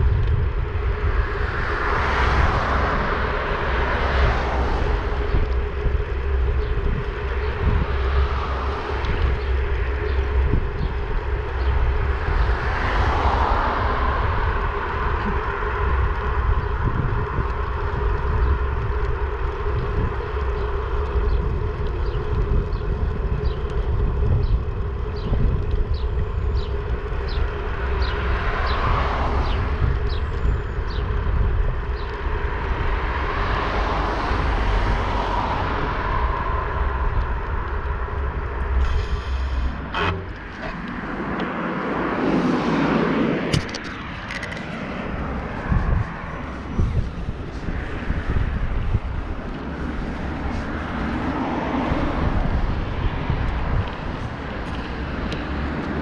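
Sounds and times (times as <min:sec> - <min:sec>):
cars passing: 0:00.0 - 0:56.0
road rumble: 0:00.0 - 0:56.0
wind buffeting microphone: 0:00.0 - 0:56.0.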